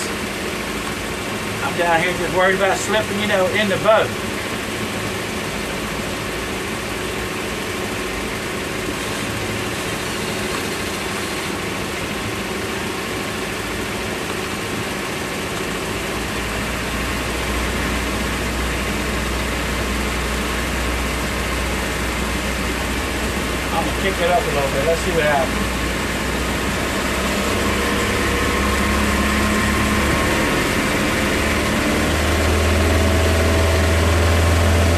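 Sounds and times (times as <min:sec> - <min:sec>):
motorboat engine running: 0:00.0 - 0:34.9
rushing water: 0:00.0 - 0:34.9.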